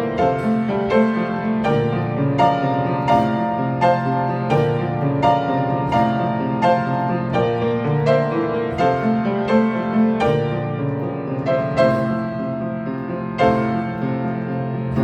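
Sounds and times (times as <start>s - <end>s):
out of tune piano piece: 0.0s - 15.0s.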